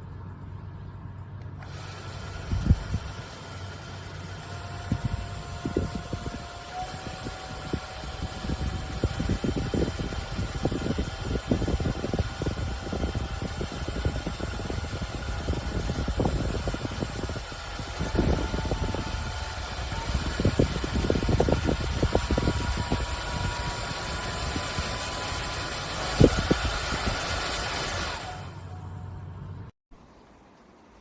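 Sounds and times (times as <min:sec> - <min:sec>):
fan motor whine: 0:00.0 - 0:29.7.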